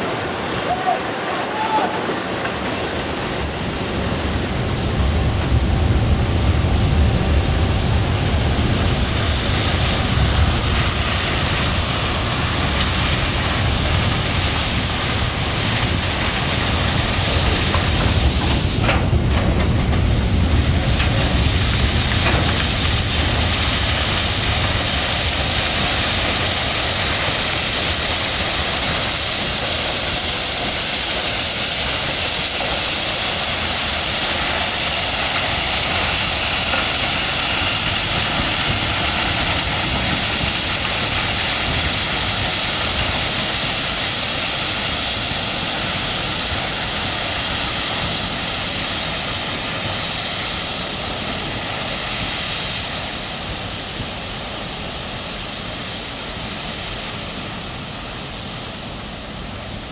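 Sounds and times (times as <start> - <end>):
gravel pouring onto track bed: 6.5 - 56.6.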